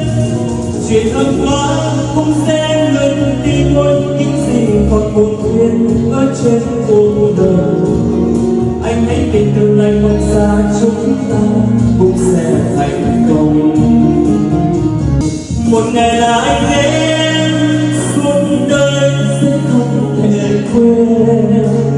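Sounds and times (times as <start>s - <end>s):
instrumental backing: 0.0s - 21.9s.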